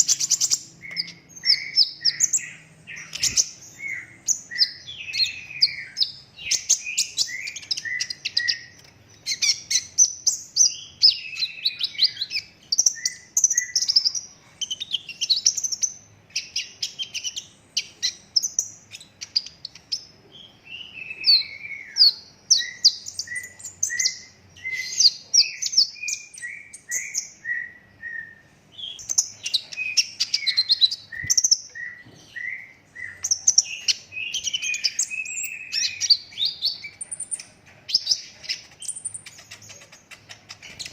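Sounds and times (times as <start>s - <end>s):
bird singing chattering trills: 0.0s - 40.9s.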